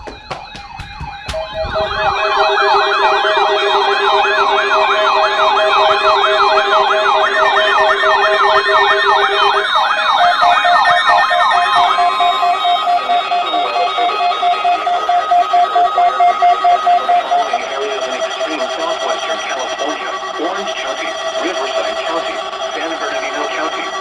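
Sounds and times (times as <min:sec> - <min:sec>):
electronic sirens yelping: 0:00.0 - 0:24.0.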